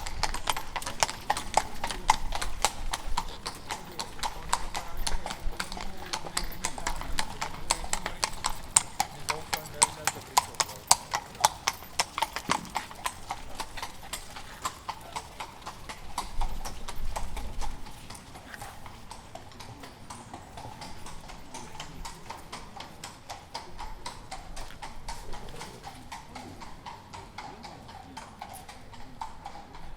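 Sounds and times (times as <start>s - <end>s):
hooves clip-clopping on pavement: 0.0s - 29.9s.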